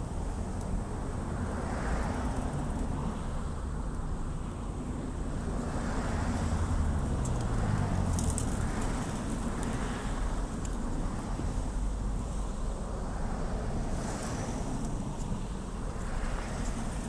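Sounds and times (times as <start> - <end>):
road traffic rumble: 0.0 - 17.0
vehicles passing by: 0.0 - 17.0.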